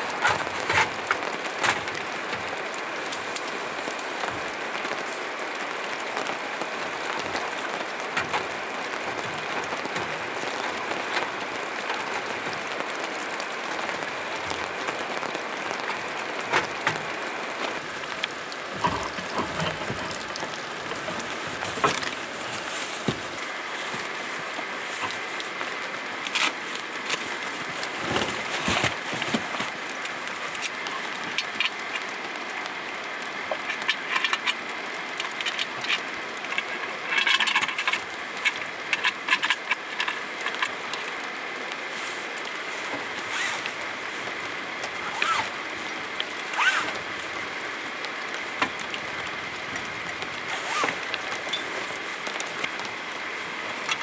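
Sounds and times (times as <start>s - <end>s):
rain falling: 0.0s - 54.0s
raindrop hits and clicks: 0.0s - 54.0s.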